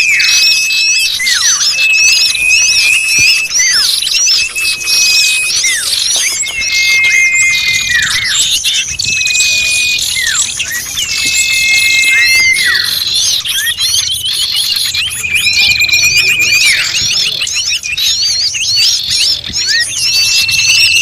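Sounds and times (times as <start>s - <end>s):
long held bird whistles: 0.0s - 21.0s
small birds chirping noisily: 0.0s - 21.0s.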